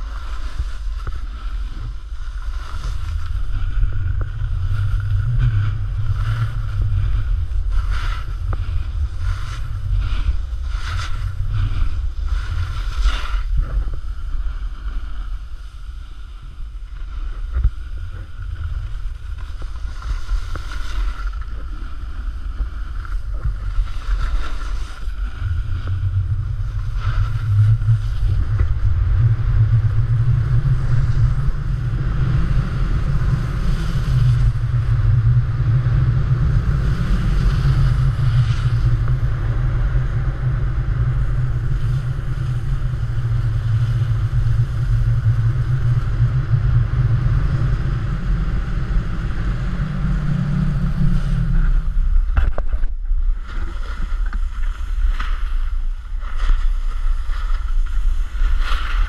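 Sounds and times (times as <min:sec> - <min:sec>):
snowboard edges scraping snow: 0:00.0 - 0:59.0
wind buffeting microphone: 0:00.0 - 0:59.0.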